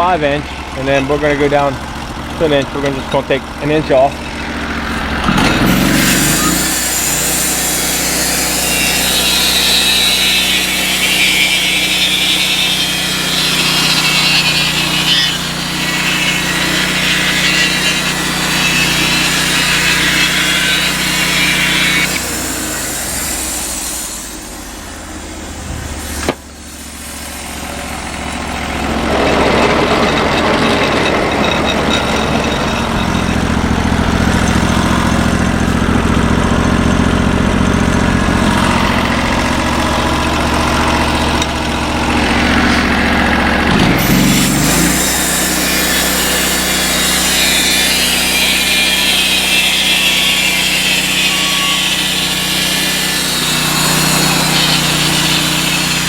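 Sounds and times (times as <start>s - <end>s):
sawmill engine running: 0.0s - 56.0s
band saw blade cutting wood: 2.4s - 36.2s, 40.7s - 56.0s.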